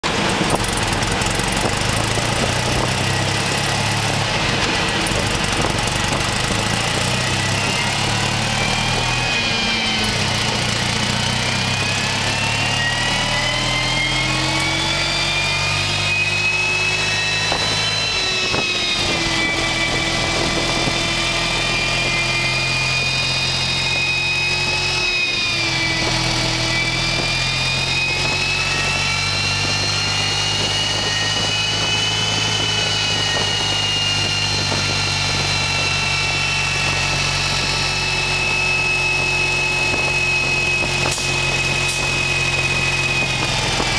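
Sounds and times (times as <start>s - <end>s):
motorcycle engine on dynamometer: 0.0s - 43.9s
whine climbing in pitch: 0.0s - 43.9s.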